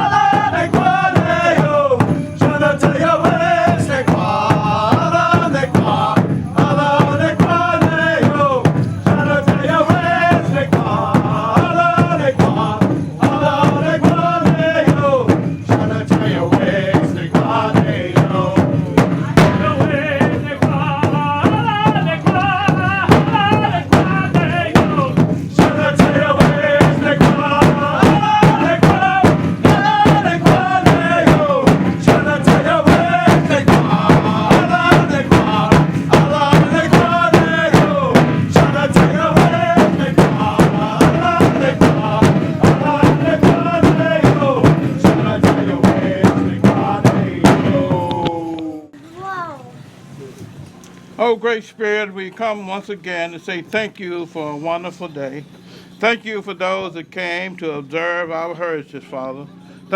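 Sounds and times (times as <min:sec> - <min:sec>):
steady drumbeat: 0:00.0 - 0:48.8
voices chanting: 0:00.0 - 0:49.0.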